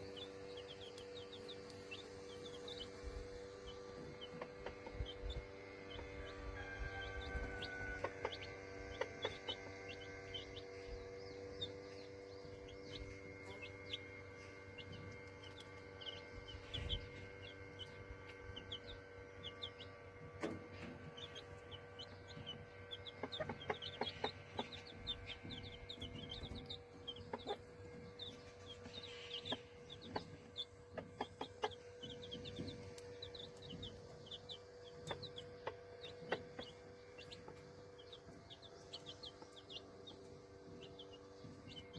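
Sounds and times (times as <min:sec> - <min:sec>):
chicks peeping: 0:00.0 - 0:41.9
hen clucking: 0:00.0 - 0:41.9
steady hum: 0:00.0 - 0:41.9.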